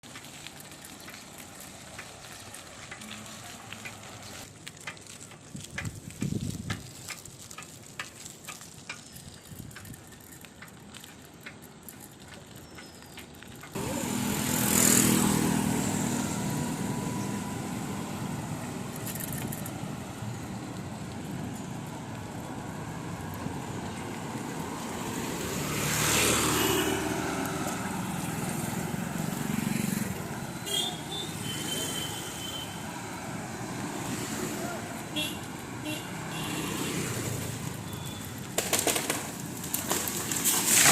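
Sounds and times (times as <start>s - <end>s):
traffic rumble: 0.0s - 40.9s
vehicles passing close: 0.0s - 40.9s.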